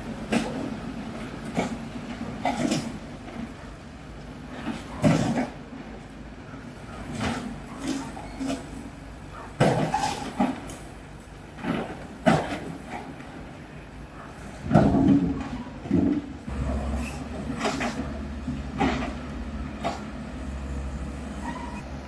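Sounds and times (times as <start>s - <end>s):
excavator engine droning: 0.0s - 22.0s.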